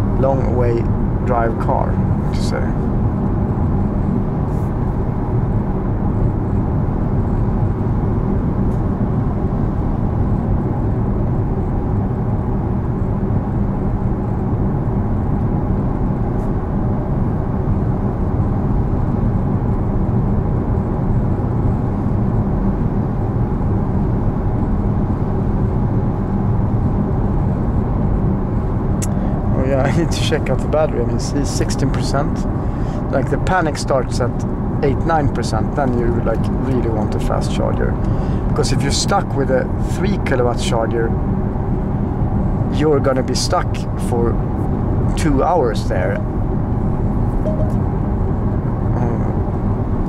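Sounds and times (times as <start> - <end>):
faint steady hum: 0.0 - 49.9
road and tyre rumble: 0.0 - 50.0.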